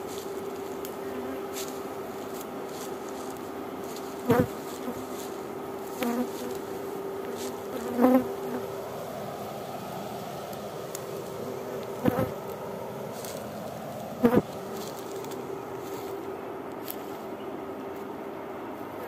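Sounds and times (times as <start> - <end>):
louder bee buzzes: 0.0 - 16.0
honeybees humming: 0.0 - 19.0.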